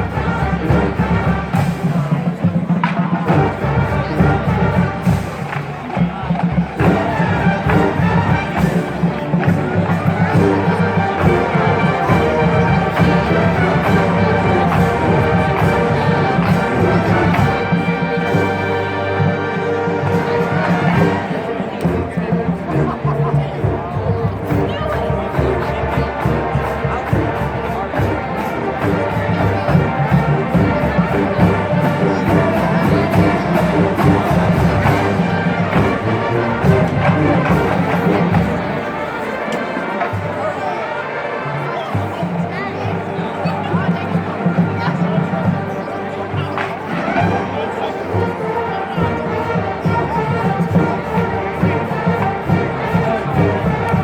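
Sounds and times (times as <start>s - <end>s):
brass sustained chords: 0.0s - 2.4s, 3.2s - 54.0s
steady drum beat: 0.0s - 39.1s, 48.9s - 54.0s
marching band playing: 0.0s - 54.0s.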